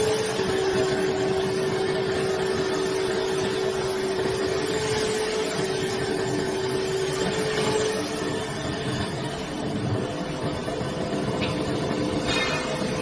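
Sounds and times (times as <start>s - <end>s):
lathe motor whine: 0.0s - 13.0s
tool cutting spinning wood: 0.0s - 13.0s.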